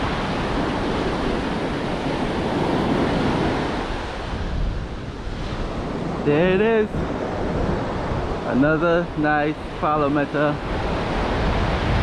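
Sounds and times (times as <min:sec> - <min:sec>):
surf breaking on a beach: 0:00.0 - 0:12.0
wind rumbling on microphone: 0:00.0 - 0:12.0.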